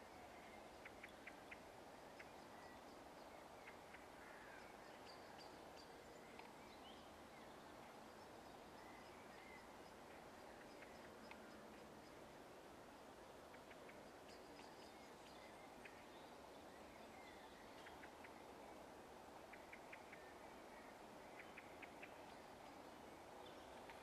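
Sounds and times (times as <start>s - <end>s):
low background hiss: 0.0s - 24.0s.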